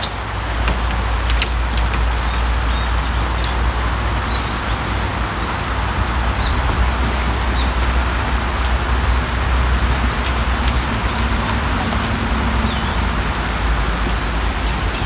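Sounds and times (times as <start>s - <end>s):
rain falling on a pond: 0.0s - 15.0s
steady low rumble: 0.0s - 15.0s.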